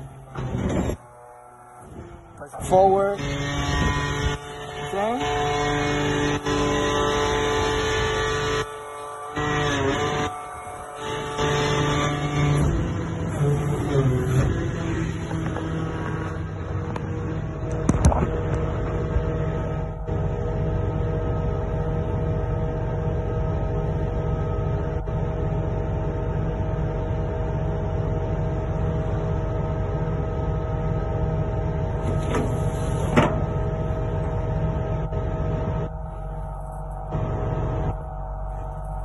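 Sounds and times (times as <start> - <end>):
hydraulic winch whine: 0.0 - 39.0
low hum: 0.0 - 39.0.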